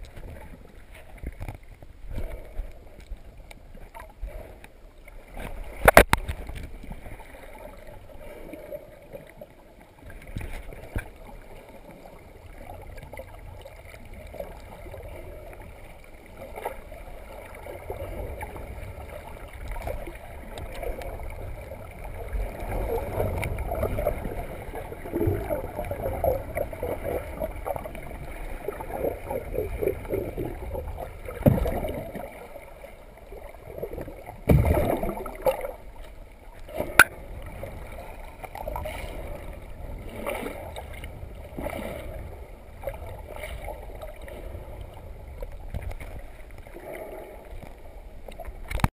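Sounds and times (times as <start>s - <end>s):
muffled underwater sloshing: 0.0s - 48.9s.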